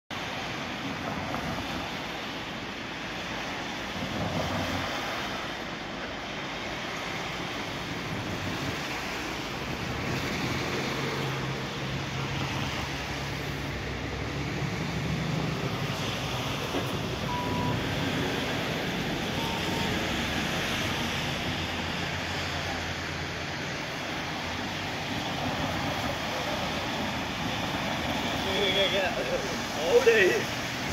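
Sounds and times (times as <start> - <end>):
car tyres on wet road: 0.1 - 30.9
low engine hum: 0.2 - 30.9.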